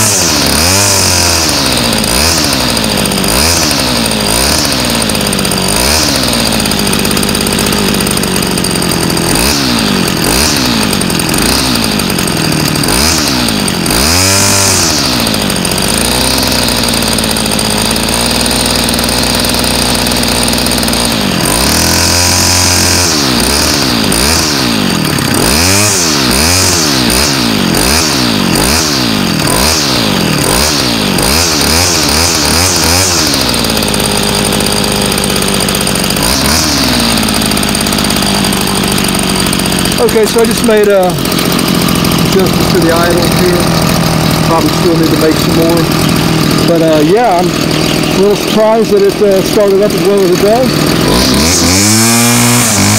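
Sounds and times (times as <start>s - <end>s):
string trimmer engine revving: 0.0s - 52.9s.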